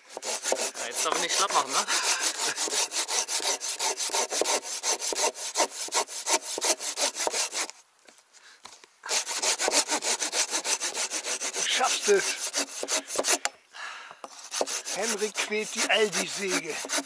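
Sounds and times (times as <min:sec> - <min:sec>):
hand saw cutting wood: 0:00.0 - 0:07.8, 0:09.1 - 0:13.5, 0:14.3 - 0:17.0.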